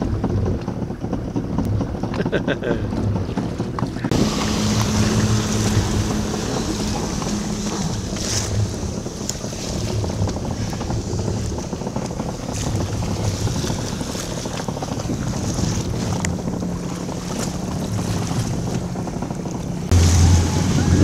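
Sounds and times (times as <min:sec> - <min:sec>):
jet ski engine running: 0:00.0 - 0:21.0
wind buffeting microphone: 0:00.0 - 0:21.0.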